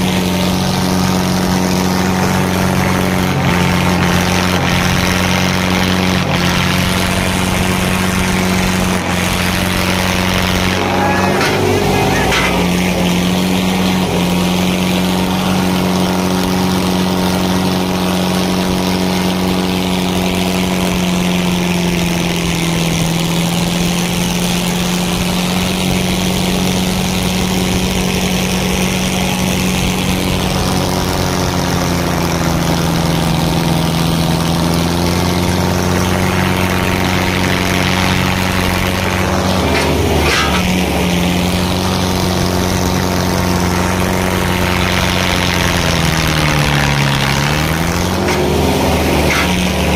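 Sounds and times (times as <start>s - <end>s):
diesel tractor engine under load: 0.0s - 49.9s.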